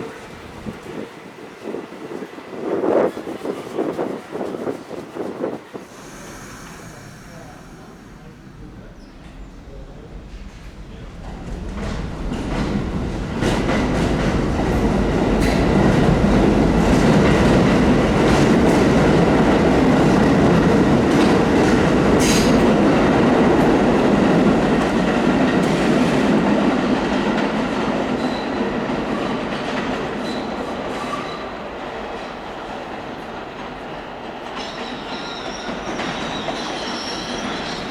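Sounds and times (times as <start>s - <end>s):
subway train passing: 0.0s - 37.9s.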